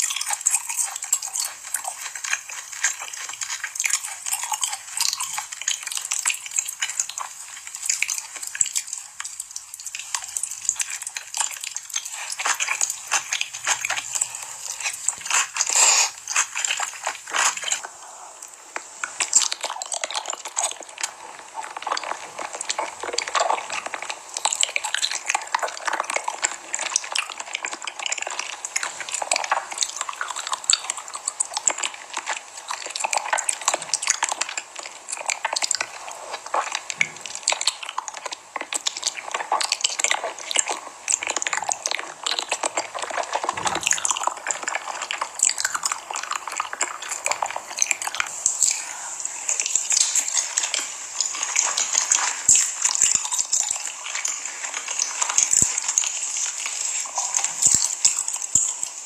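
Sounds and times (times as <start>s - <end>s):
food being chewed: 0.0s - 59.0s.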